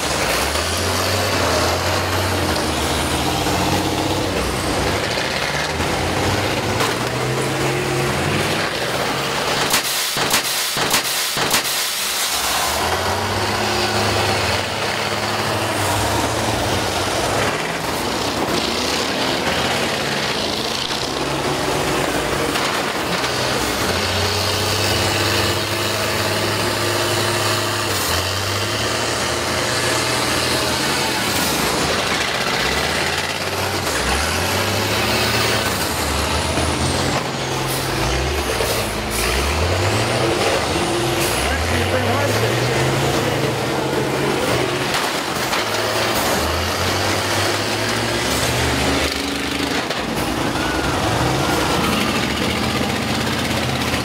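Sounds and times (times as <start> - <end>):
bus engines revving: 0.0 - 54.0.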